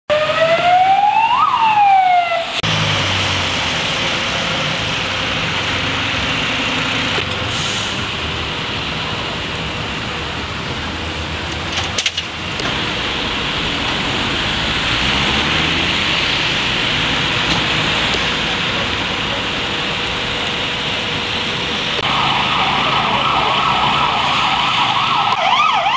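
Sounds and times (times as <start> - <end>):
emergency vehicle siren: 0.1 - 11.0, 12.6 - 25.9
traffic on a wet street: 0.1 - 25.9.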